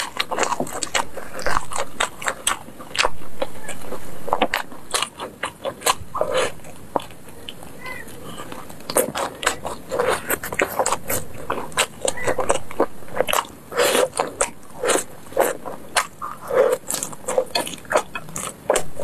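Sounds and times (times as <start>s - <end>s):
biting and chewing meat: 0.0s - 19.0s.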